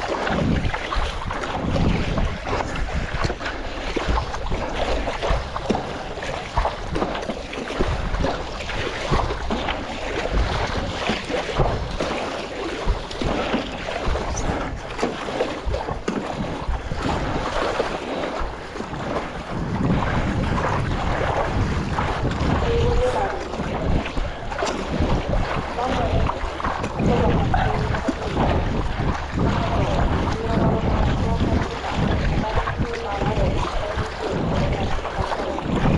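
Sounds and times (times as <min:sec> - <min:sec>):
water splashing and sloshing: 0:00.0 - 0:35.9
wind buffeting microphone: 0:00.0 - 0:35.9.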